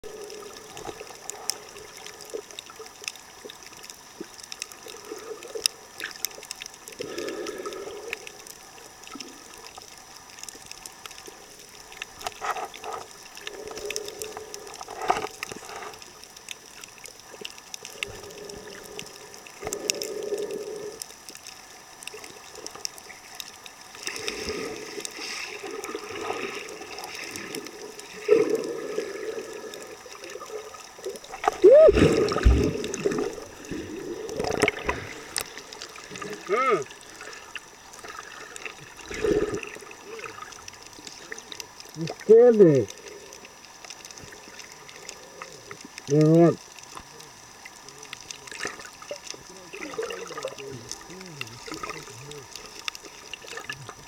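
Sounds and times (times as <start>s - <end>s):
muffled underwater noise: 0.0s - 54.0s
faint clicks and pops: 0.4s - 54.0s.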